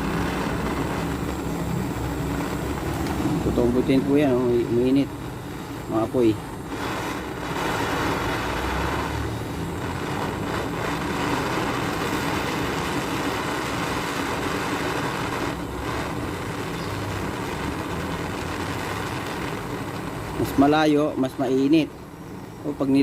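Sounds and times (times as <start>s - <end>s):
torch flame hissing: 0.0s - 23.0s.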